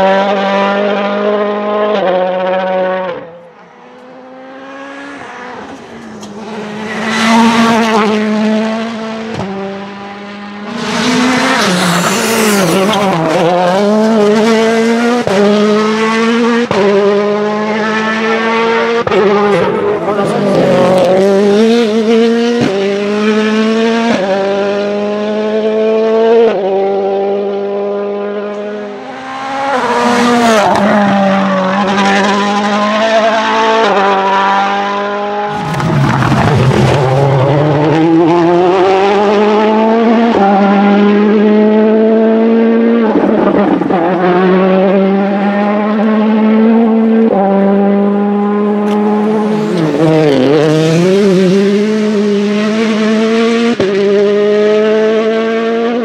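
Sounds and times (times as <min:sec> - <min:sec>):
rally car engines accelerating: 0:00.0 - 0:56.0.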